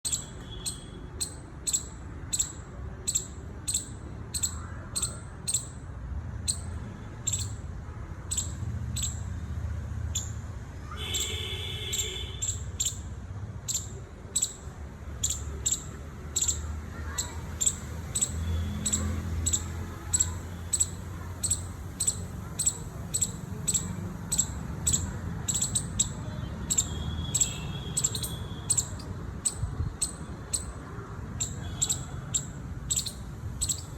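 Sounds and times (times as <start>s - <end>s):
longer lower squirrel call: 0.0s - 5.8s, 6.4s - 9.3s, 10.1s - 33.9s
squirrel chirping: 0.0s - 9.4s, 10.1s - 10.4s, 11.0s - 33.9s.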